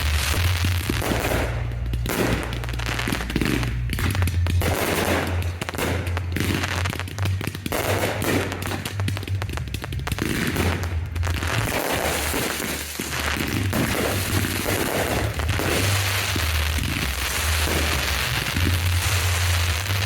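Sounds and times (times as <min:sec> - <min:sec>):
fireworks bursts and crackling: 0:00.0 - 0:20.0.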